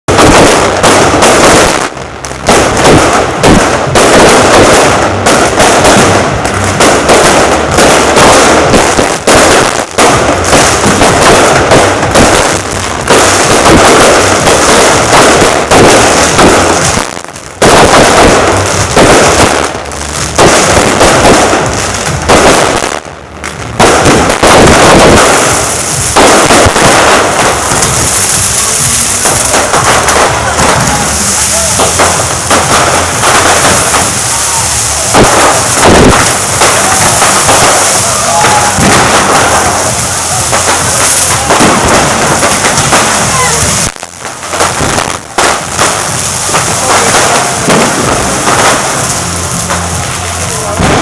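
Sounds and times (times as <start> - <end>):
fireworks bursting and crackling: 0.0 - 51.0.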